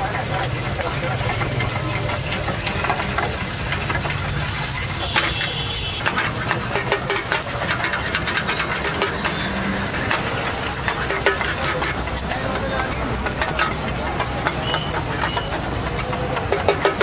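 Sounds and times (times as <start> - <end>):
eggs sizzling in a wok: 0.0 - 17.0
metal spatula scraping a wok: 1.2 - 17.0.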